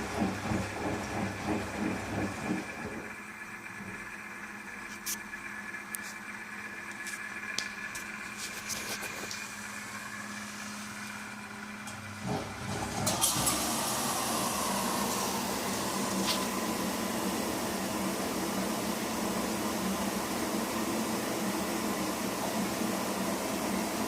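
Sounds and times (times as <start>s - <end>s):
washing machine running: 0.0s - 24.0s.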